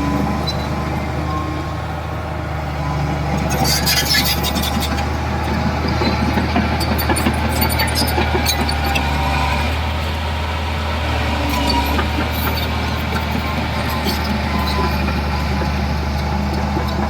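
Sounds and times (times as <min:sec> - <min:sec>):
diesel machinery engine hum: 0:00.0 - 0:17.0.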